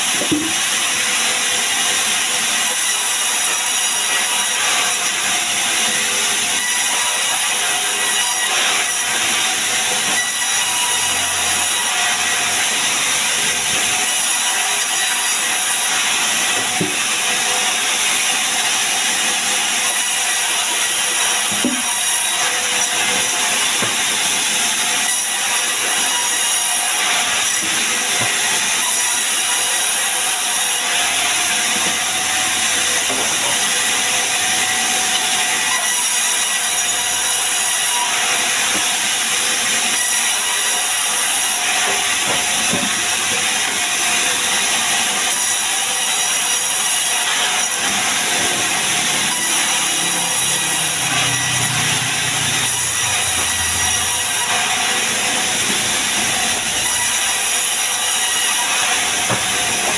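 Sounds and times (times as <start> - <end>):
band saw blade whine: 0.0 - 59.9.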